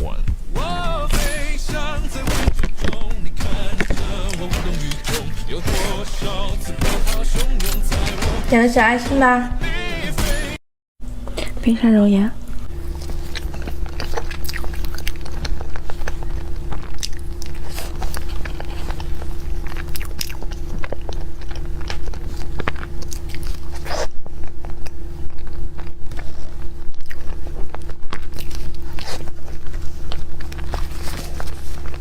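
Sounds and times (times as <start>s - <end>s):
biting and chewing cake: 0.0s - 8.5s, 12.5s - 32.0s
steady low hum: 0.0s - 32.0s.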